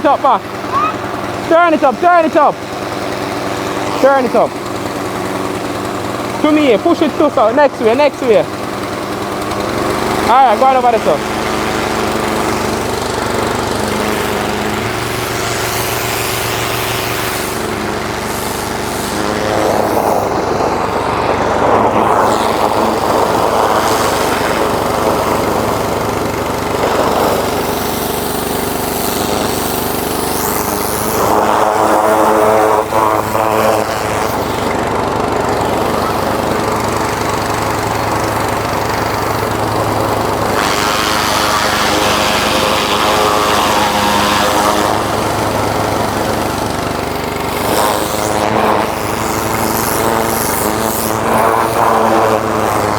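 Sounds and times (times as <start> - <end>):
pressure washer engine running: 0.0 - 52.9
water jet hissing: 0.2 - 52.9.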